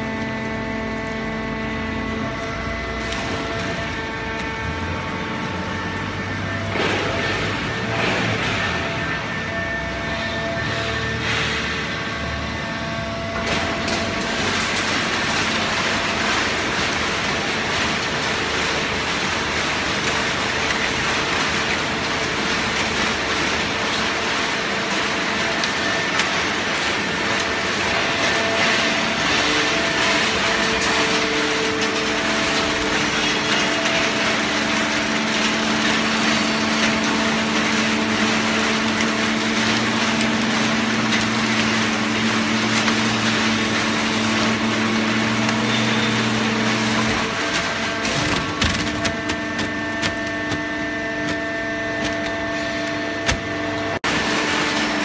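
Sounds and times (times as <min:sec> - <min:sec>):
baling press mechanical din: 0:00.0 - 0:55.0.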